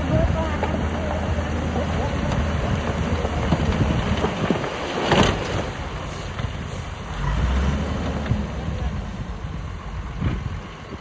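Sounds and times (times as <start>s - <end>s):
diesel earthmoving machinery rumbling: 0.0s - 11.0s.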